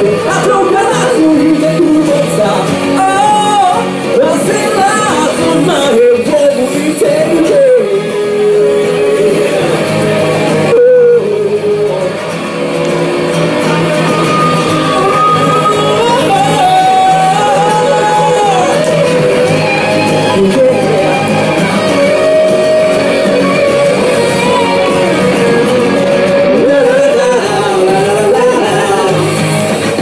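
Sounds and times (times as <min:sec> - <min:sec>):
man singing into a microphone: 0:00.0 - 0:12.6, 0:13.8 - 0:30.0
acoustic guitar: 0:00.0 - 0:30.0.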